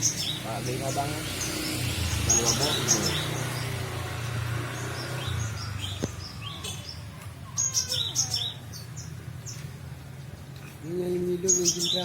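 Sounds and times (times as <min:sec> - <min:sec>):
small bird chirping: 0:00.0 - 0:09.8.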